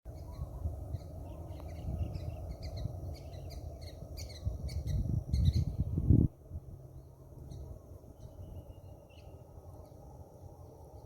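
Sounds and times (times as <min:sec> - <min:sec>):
small birds chirping: 0:00.1 - 0:06.1, 0:06.9 - 0:11.0.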